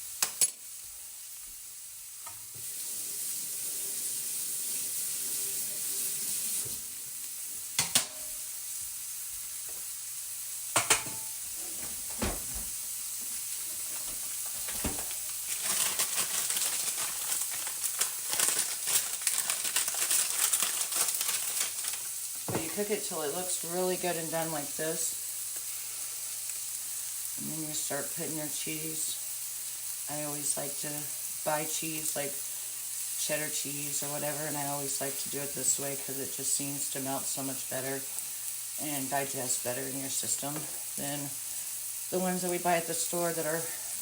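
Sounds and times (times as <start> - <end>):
vegetables sizzling in a frying pan: 0.0 - 44.0.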